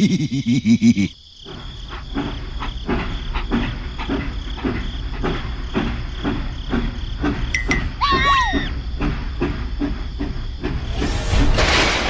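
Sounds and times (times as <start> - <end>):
crickets chirping: 0.0 - 11.5.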